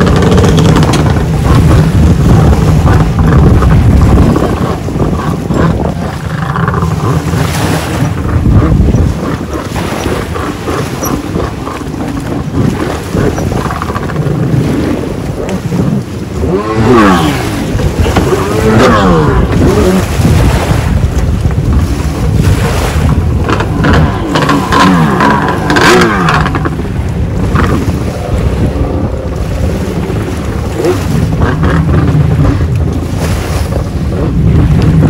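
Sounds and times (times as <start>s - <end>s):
jet ski engine revving: 0.0s - 35.0s
wind rumble on microphone: 0.0s - 35.0s.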